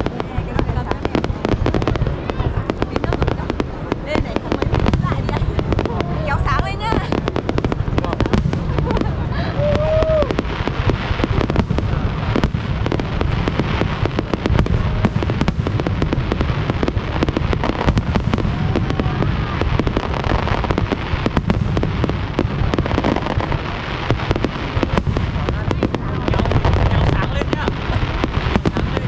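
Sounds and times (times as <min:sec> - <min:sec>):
fireworks bangs and crackles: 0:00.0 - 0:29.0
heavy low rumble: 0:00.0 - 0:29.0.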